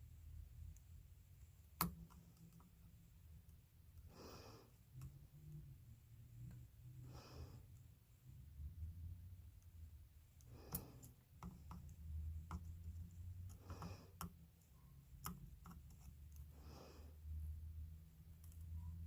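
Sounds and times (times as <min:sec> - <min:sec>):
low steady hum: 0:00.0 - 0:19.0
soft breaths: 0:00.2 - 0:19.0.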